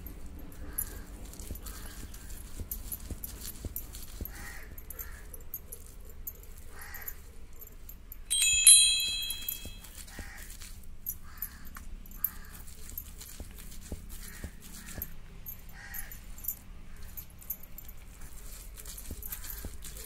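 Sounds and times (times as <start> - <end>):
glass bangles clinking: 0.0 - 20.0.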